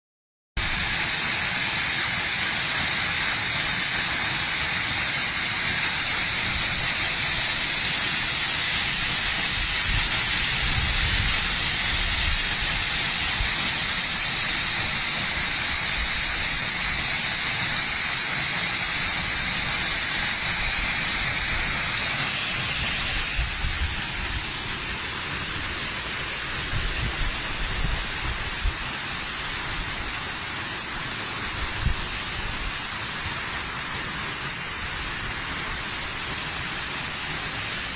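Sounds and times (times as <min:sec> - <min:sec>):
waterfall splashing into pool: 0:00.6 - 0:37.9.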